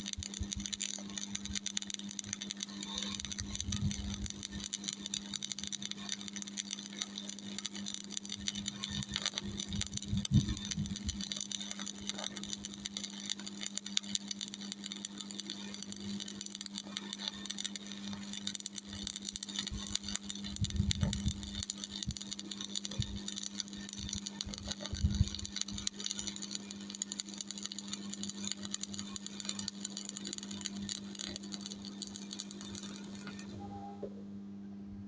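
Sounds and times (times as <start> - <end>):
welding arc crackling: 0.0 - 34.0
welder hum: 0.0 - 35.0.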